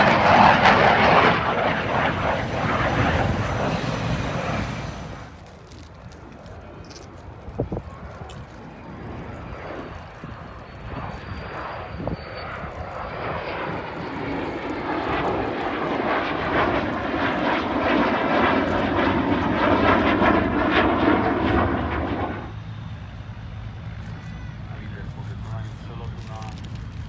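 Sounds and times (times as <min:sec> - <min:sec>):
airplane engine noise: 0:00.0 - 0:27.0.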